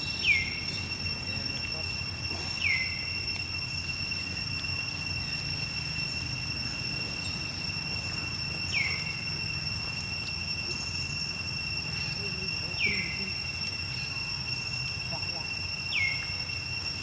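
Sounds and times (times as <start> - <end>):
downward-sweeping chirp: 0.0 - 17.0
insects droning: 0.0 - 17.0.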